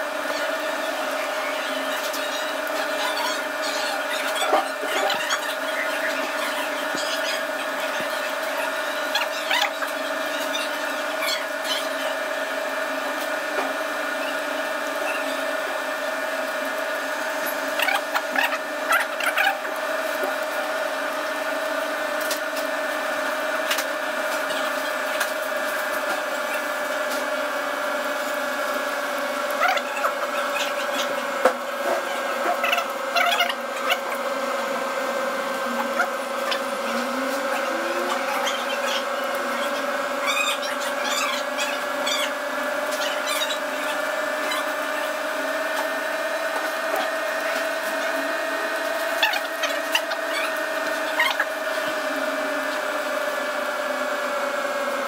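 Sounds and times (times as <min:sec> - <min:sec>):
motor humming: 0:00.0 - 0:55.0.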